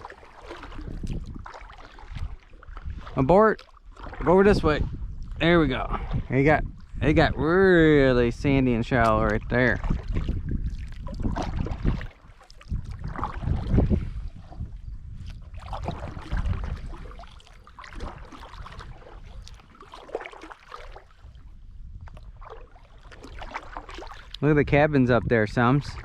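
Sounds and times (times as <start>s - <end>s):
paddle splashing in water: 0.0s - 4.6s, 8.7s - 24.6s, 25.4s - 26.0s
wind rumbling on microphone: 0.0s - 26.0s.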